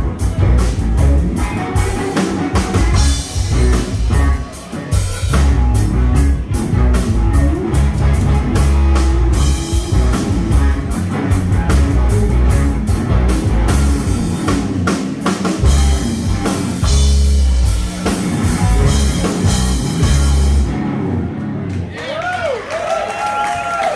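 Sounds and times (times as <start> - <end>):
drum kit hits: 0.0 - 21.6
live band playing blues-rock: 0.0 - 21.9
guitar: 0.0 - 22.1.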